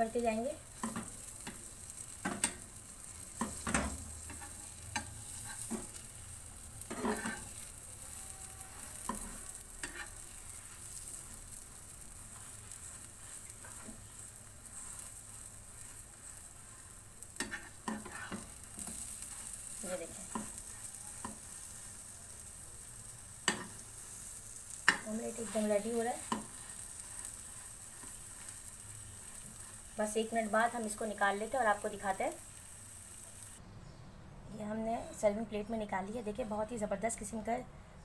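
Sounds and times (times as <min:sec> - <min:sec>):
omelette sizzling in pan: 0:00.0 - 0:33.6.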